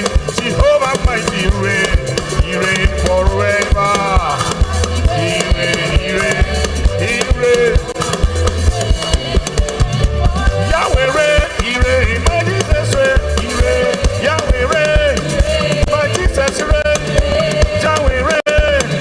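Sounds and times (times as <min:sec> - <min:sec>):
melodic lines: 0:00.0 - 0:16.8
bass line: 0:00.0 - 0:19.0
drum kit beat: 0:00.0 - 0:19.0.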